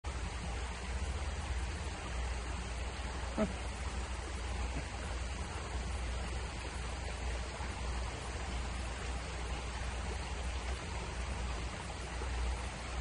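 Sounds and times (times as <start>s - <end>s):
rushing water hiss: 0.1s - 13.0s.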